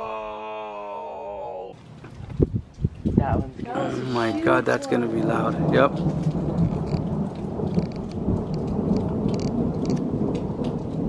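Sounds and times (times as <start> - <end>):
thunder rumbling: 2.1 - 11.0.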